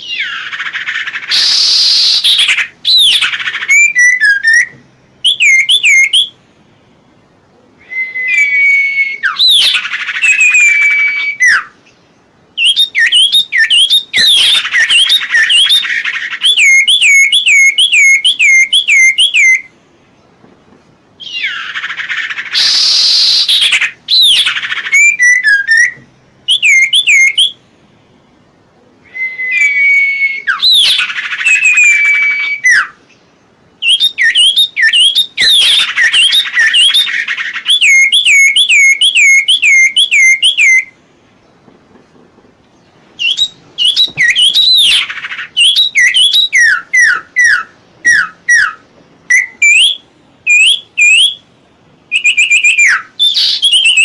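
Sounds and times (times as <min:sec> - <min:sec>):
songbird whistled notes: 0:00.0 - 0:06.4, 0:07.7 - 0:19.7, 0:21.2 - 0:27.6, 0:29.0 - 0:41.0, 0:43.2 - 0:51.5, 0:52.1 - 0:54.0.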